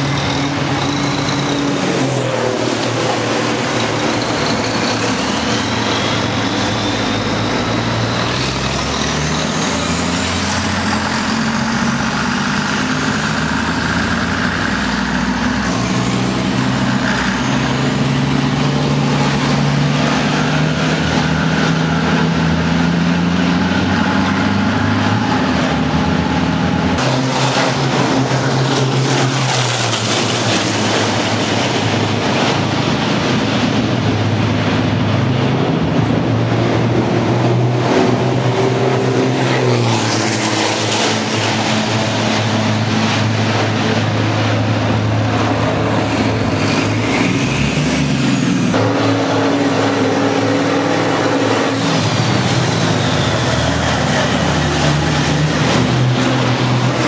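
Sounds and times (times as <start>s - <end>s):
truck diesel engines revving: 0.0s - 57.0s.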